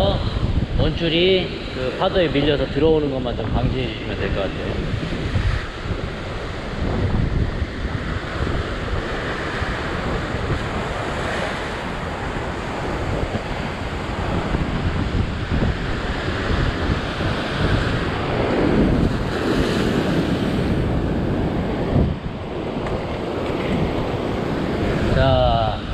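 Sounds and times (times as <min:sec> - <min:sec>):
wind buffeting microphone: 0:00.0 - 0:25.9
surf breaking over rocks: 0:00.9 - 0:25.9.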